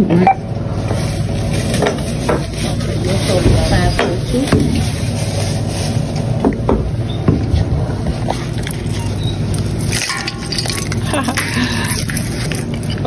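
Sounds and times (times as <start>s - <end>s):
low hum of store checkout: 0.0s - 13.0s.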